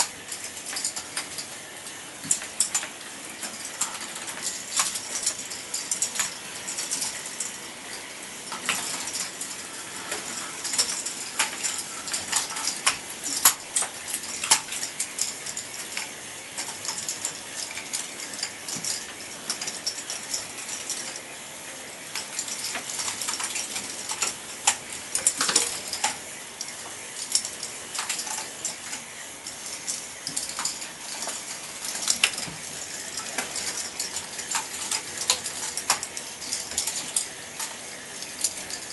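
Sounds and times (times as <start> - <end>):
ball lifts clicking and ratcheting: 0.0 - 38.9.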